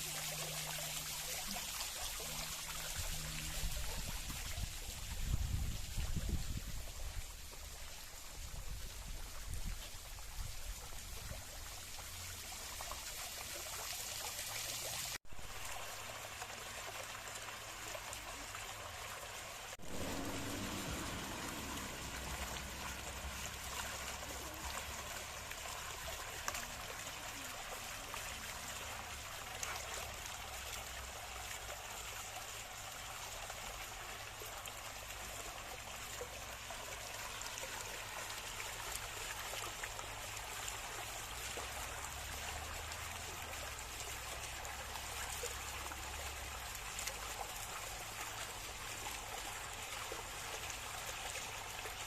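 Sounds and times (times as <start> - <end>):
water drips and splashes: 0.0 - 52.0
water running and trickling: 0.0 - 52.0.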